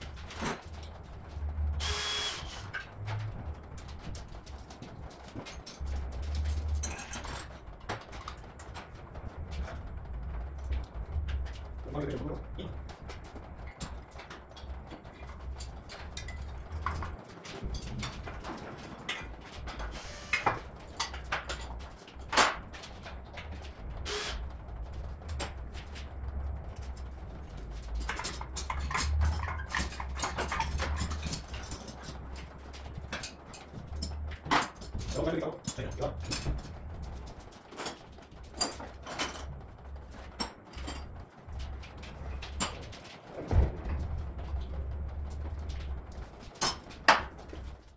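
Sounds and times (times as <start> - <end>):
low rumble: 0.0 - 20.0, 20.6 - 47.9
low steady hum: 0.0 - 47.9
tools and metal parts clattering: 0.0 - 47.9.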